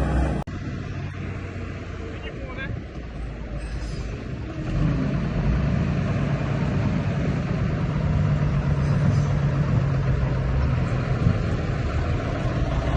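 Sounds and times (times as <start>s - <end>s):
heavy engine droning: 0.0s - 12.9s.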